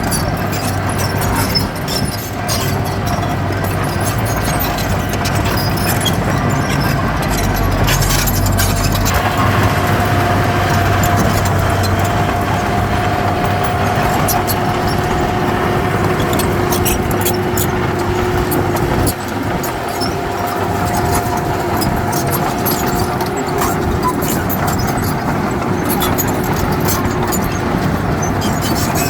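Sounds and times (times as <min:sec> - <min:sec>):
diesel earthmoving machine running: 0:00.0 - 0:29.0
high squeal: 0:00.0 - 0:29.0.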